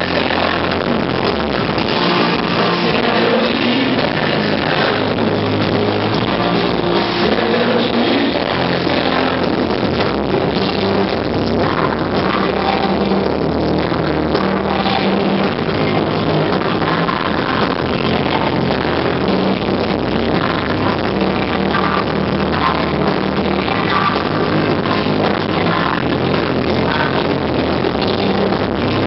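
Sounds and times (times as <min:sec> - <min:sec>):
live electronic rock band: 0:00.0 - 0:29.0
sustained bass notes: 0:00.0 - 0:29.0.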